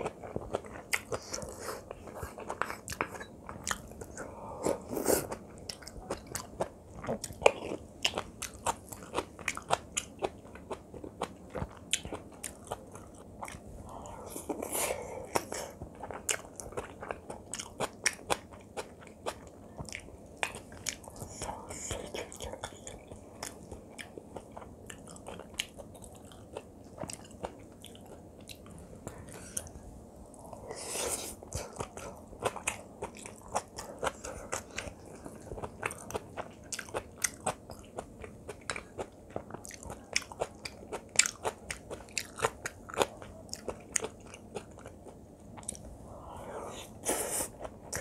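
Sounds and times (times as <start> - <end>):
chewing with wet mouth clicks: 0.0 - 13.6, 15.3 - 29.8, 31.4 - 45.9.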